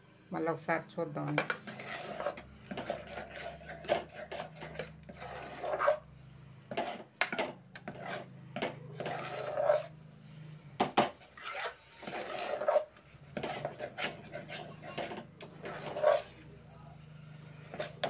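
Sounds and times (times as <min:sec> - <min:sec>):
spoon scraping a metal pot: 0:01.3 - 0:06.1, 0:06.7 - 0:16.5, 0:17.3 - 0:18.0.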